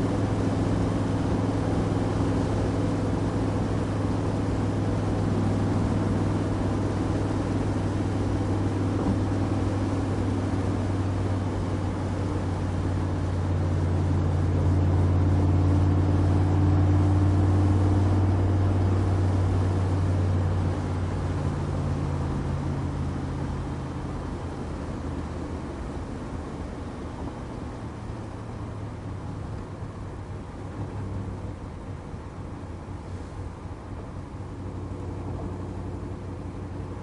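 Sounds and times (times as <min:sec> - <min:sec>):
car engine droning while driving: 0:00.0 - 0:37.0.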